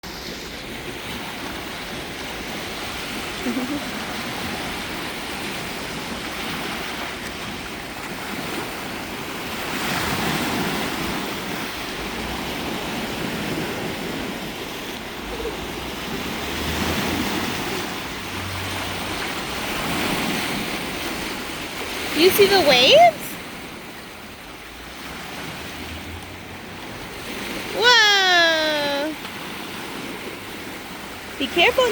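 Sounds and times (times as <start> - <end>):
lake waves washing onto shore: 0.0 - 31.9.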